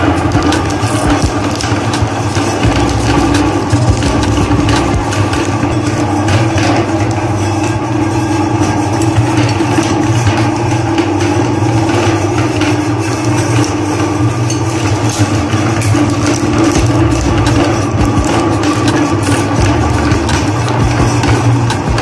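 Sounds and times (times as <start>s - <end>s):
crunching crackle: 0.0s - 22.0s
meat grinder motor humming: 0.0s - 22.0s.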